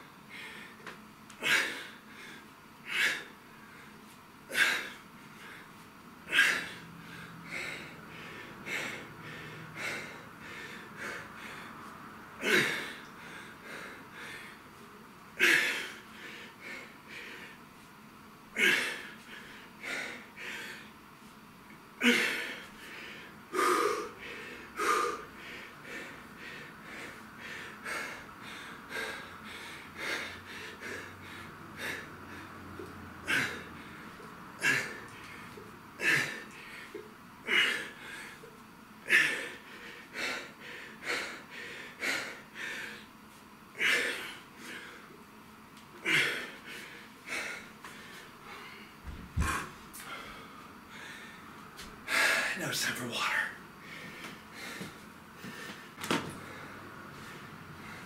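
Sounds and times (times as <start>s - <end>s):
man breathing hard: 0.2s - 17.9s, 18.5s - 21.0s, 22.0s - 45.3s, 46.0s - 58.0s.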